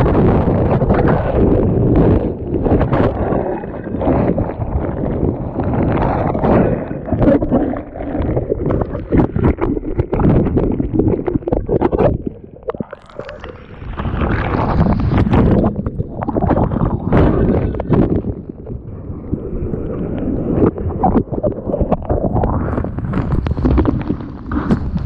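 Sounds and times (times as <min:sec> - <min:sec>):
muffled surf splashing: 0:00.0 - 0:25.0
wave breaking over camera: 0:00.0 - 0:25.0.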